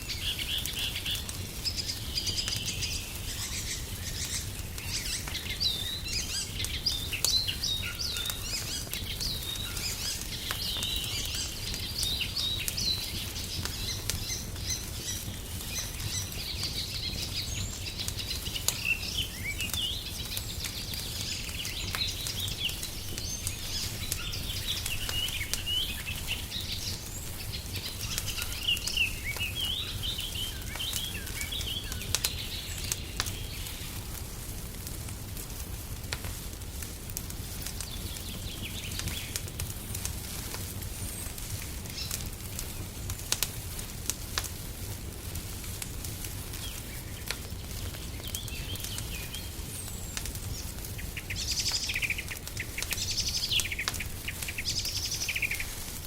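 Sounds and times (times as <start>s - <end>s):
small birds chirping: 0.0s - 34.4s, 36.8s - 43.8s, 44.5s - 56.0s
wood fire crackling: 0.0s - 56.0s.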